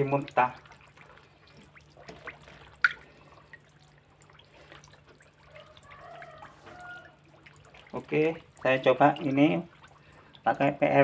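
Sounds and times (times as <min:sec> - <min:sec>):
fish splashing in water: 0:00.0 - 0:10.7.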